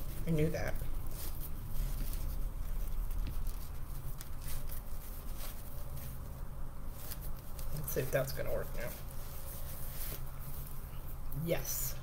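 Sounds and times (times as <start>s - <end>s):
small crackles: 0.0s - 10.8s
mesh fabric rustling: 0.0s - 12.0s.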